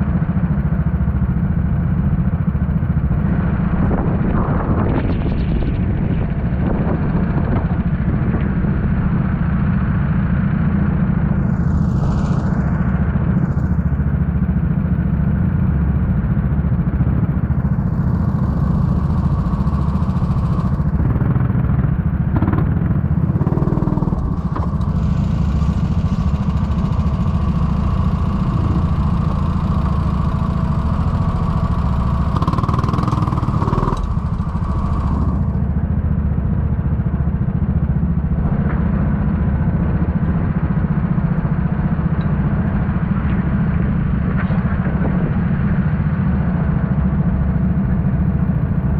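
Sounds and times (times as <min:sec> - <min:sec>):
kart engine running under load: 0:06.5 - 0:48.9.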